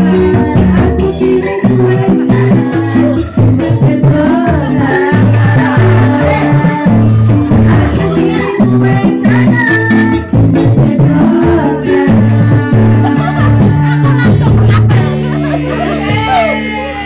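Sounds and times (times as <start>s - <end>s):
woman singing: 0.0s - 14.6s
keyboard accompaniment with drum beat: 0.0s - 17.0s.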